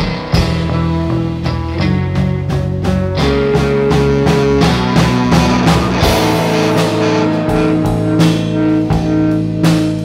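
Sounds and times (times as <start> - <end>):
bass guitar: 0.0 - 10.0
drum hits: 0.0 - 10.0
electric guitar chords: 0.0 - 10.0.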